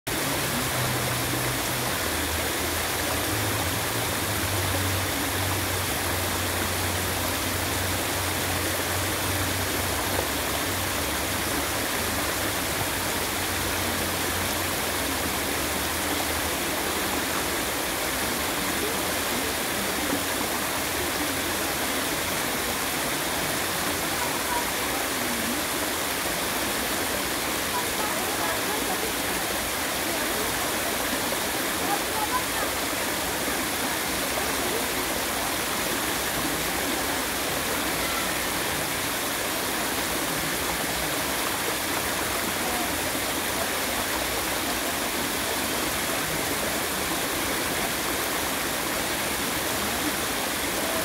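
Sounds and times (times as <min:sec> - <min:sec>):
water rushing over stones: 0:00.1 - 0:51.0.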